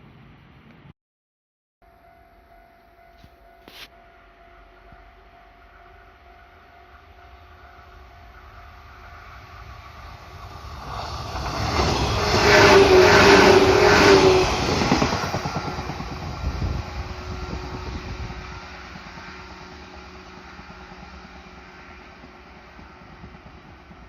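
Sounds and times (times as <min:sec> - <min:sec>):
train passing: 0:01.9 - 0:24.0.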